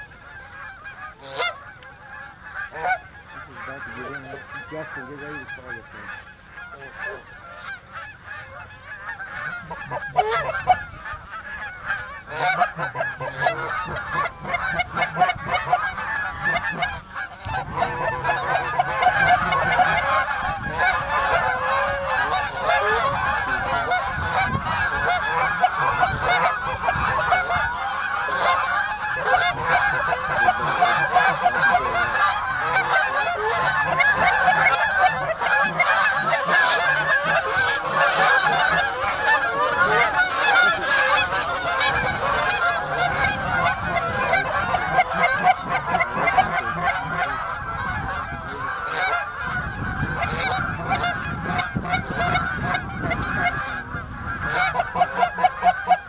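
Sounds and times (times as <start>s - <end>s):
flock of geese honking: 0.0s - 56.0s.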